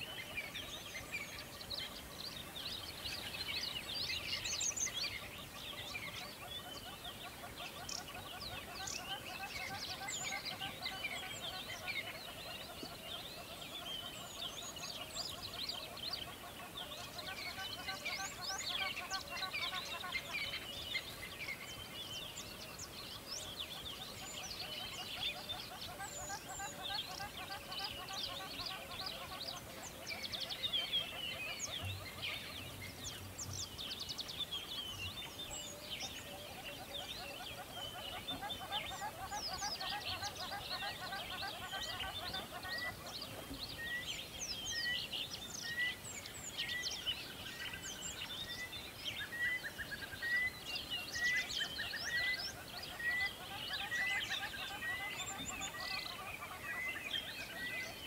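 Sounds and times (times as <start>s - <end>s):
flock of birds chirping: 0.0s - 58.0s.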